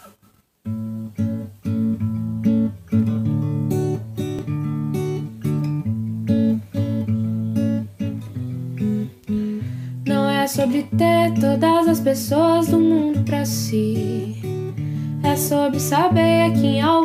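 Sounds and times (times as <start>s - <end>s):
acoustic guitar strumming: 0.6s - 17.0s.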